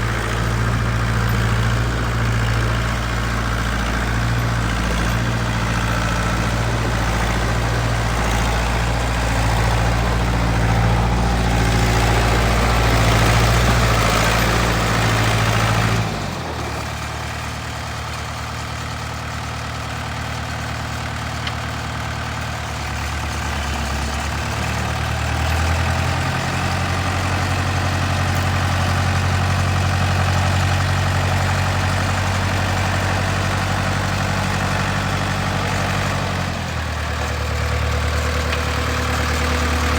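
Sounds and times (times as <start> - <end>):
trencher engine running: 0.0 - 39.9.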